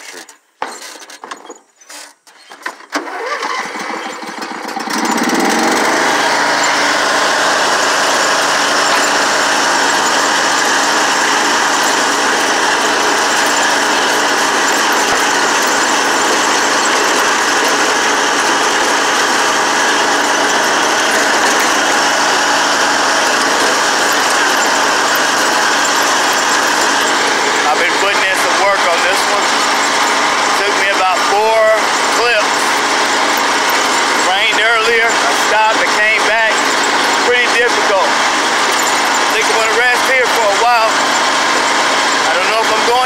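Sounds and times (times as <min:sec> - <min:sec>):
small engine starting and running: 0:01.9 - 0:43.0.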